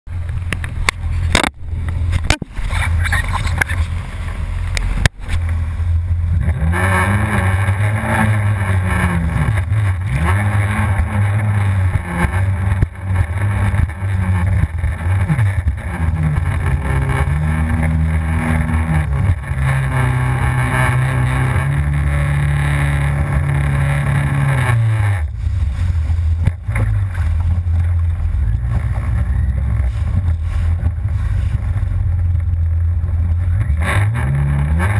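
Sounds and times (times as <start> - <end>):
jet ski engine revving: 0.1 - 34.9.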